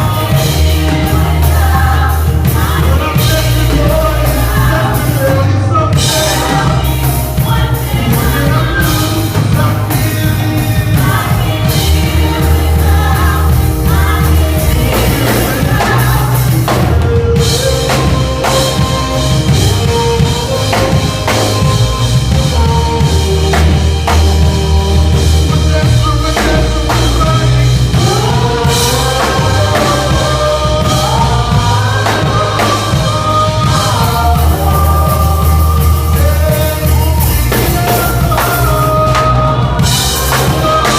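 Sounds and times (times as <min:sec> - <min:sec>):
gospel band playing: 0:00.0 - 0:40.9
people singing: 0:00.0 - 0:40.9.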